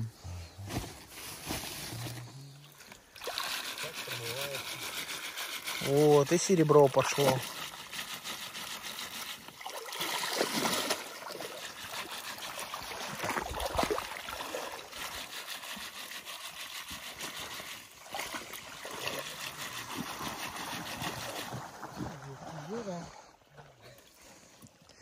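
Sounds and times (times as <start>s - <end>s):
water sloshing and splashing: 0.9s - 24.9s.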